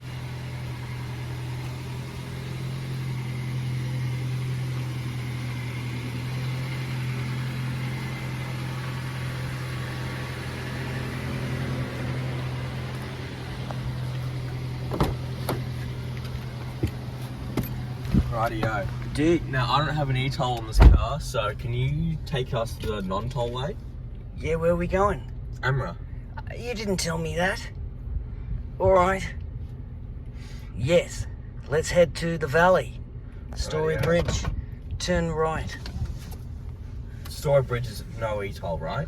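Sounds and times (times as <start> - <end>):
car engine humming: 0.0 - 39.0.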